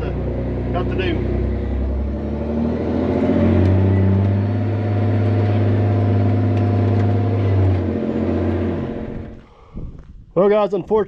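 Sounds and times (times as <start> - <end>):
truck diesel engine revving: 0.0 - 9.5.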